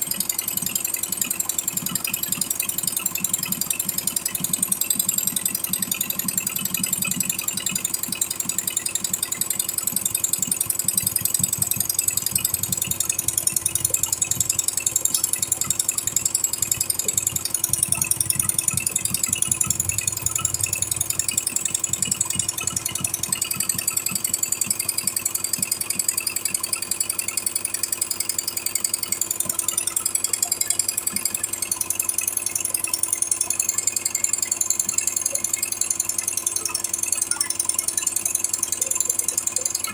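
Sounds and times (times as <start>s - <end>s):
embroidery machine clattering: 0.0s - 39.9s.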